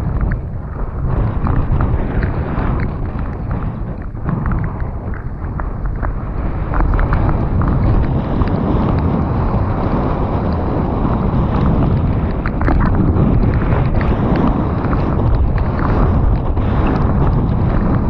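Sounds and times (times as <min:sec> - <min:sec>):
tyres rolling on wet trail: 0:00.0 - 0:18.0
wind rushing over microphone: 0:00.0 - 0:18.0.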